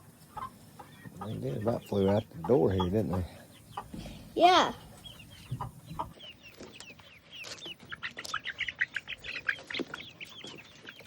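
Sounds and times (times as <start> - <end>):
young chickens peeping: 0.0 - 11.0.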